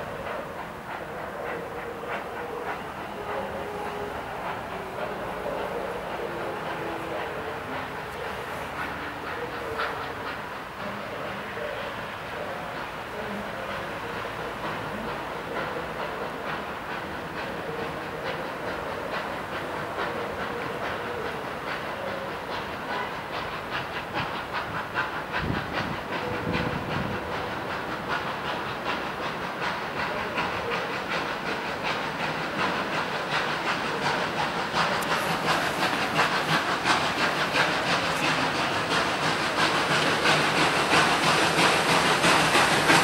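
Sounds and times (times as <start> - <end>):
steady steam hiss: 0.0 - 43.0
steam locomotive exhaust chuffs: 0.0 - 43.0.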